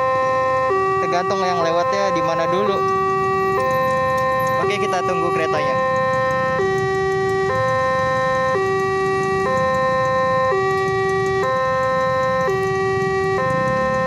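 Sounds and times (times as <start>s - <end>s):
two-tone level crossing alarm: 0.0s - 14.0s.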